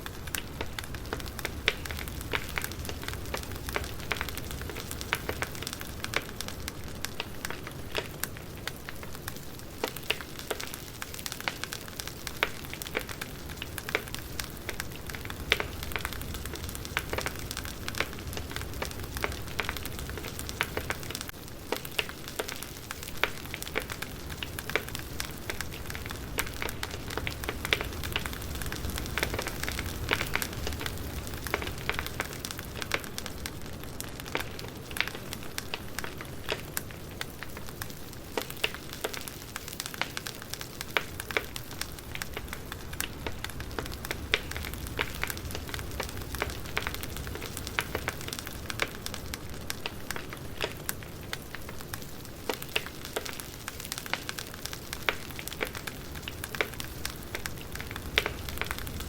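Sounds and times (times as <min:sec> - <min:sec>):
low rumble of burning logs: 0:00.0 - 0:59.0
wood fire crackling: 0:00.0 - 0:59.0.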